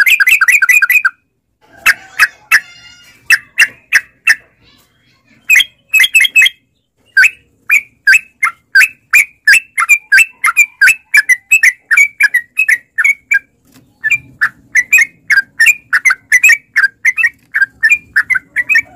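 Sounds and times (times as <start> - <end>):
bird chirping rapidly: 0.0 - 4.7, 5.3 - 18.9.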